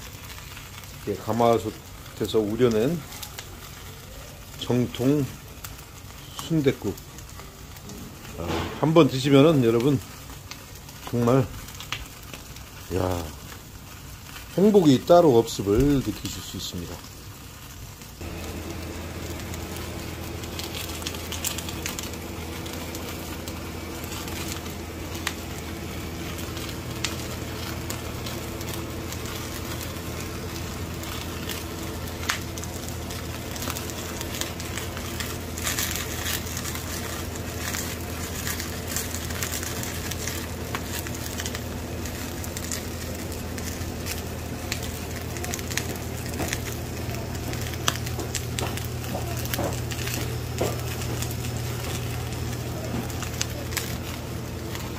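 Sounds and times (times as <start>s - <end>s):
steady low hum: 0.0s - 11.8s, 15.4s - 54.9s
firewood crackling and popping: 0.0s - 54.9s
rush of flame: 0.0s - 54.9s.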